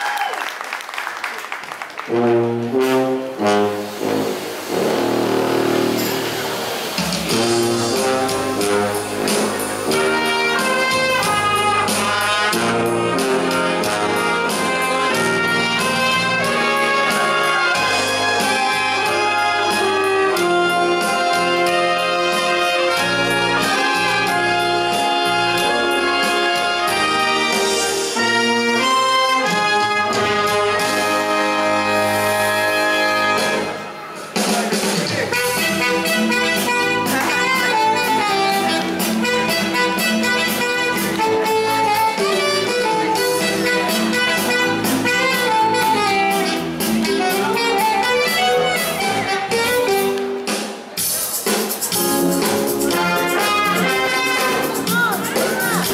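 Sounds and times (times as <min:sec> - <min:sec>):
brass band music: 0:01.9 - 0:55.9.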